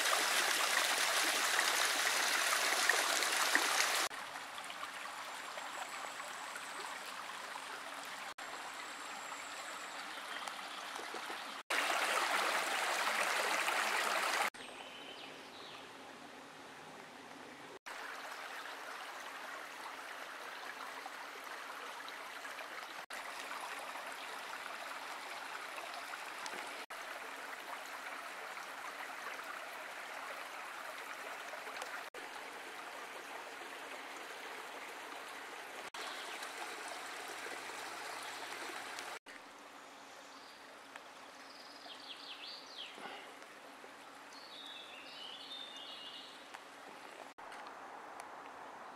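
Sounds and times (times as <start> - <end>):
creek flowing over stones: 0.0 - 14.8, 15.4 - 48.9.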